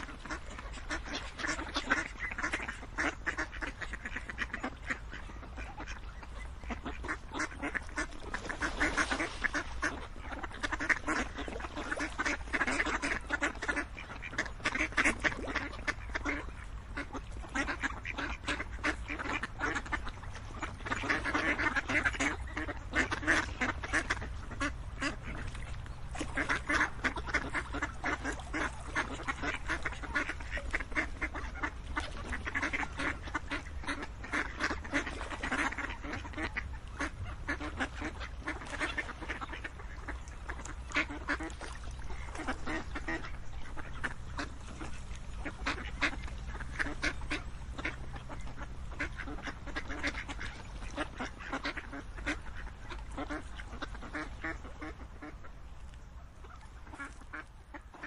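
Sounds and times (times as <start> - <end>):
ducks quacking: 0.0 - 58.0
steady low rumble: 0.0 - 58.0.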